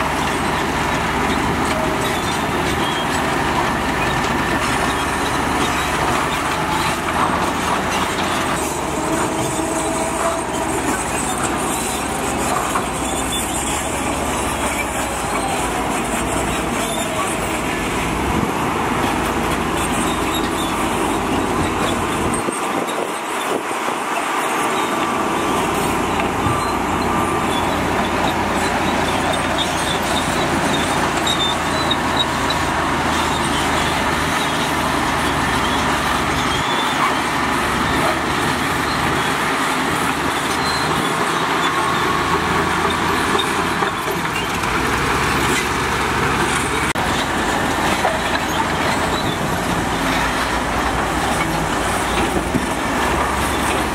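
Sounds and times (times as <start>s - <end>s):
heavy vehicles running: 0.0s - 53.9s.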